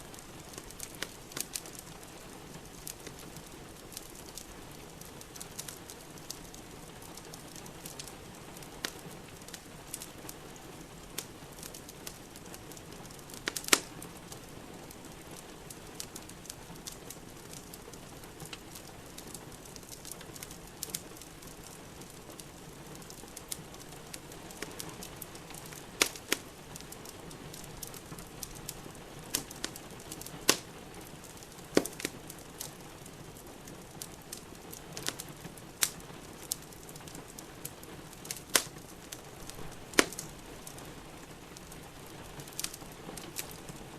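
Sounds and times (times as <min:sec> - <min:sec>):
rain hiss: 0:00.0 - 0:43.9
wood fire crackling and popping: 0:00.0 - 0:43.9.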